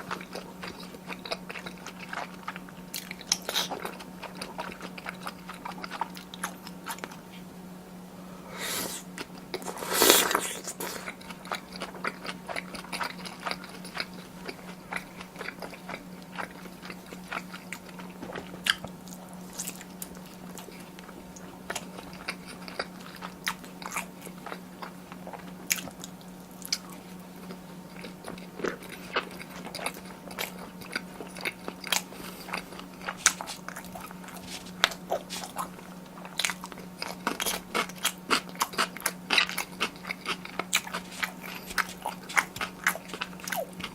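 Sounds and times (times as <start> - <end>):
close-miked chewing: 0.0 - 7.4, 8.6 - 43.9
steady low hum: 0.0 - 43.9.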